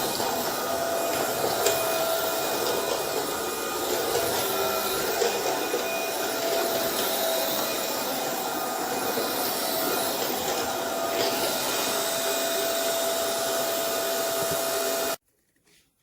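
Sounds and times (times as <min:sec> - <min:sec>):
vacuum cleaner running: 0:00.0 - 0:15.2.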